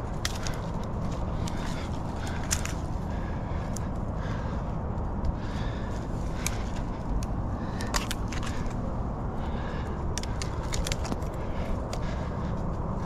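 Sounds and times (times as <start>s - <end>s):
scraping on tree bark: 0.0s - 13.0s
steady low rumble: 0.0s - 13.0s
twigs cracking: 0.0s - 13.0s.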